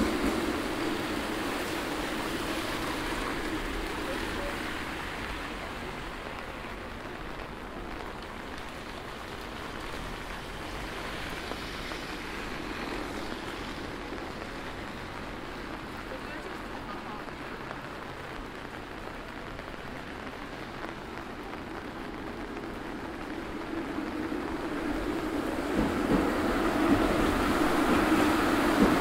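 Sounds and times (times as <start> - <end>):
steady rain on street: 0.0 - 29.0.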